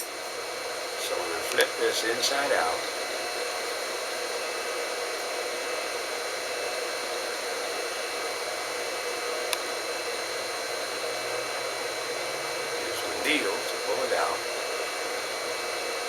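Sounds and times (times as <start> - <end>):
steady hiss: 0.0 - 5.7, 7.7 - 16.0.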